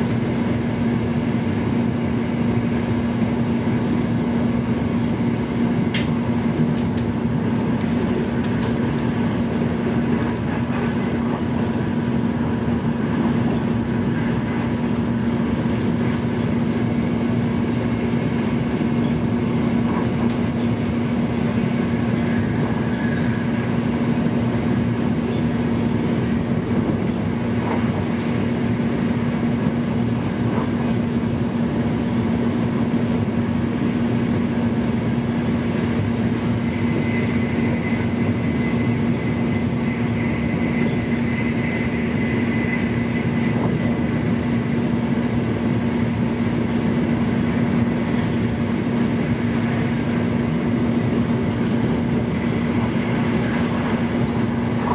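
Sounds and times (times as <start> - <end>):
train rumble inside carriage: 0.0 - 54.9.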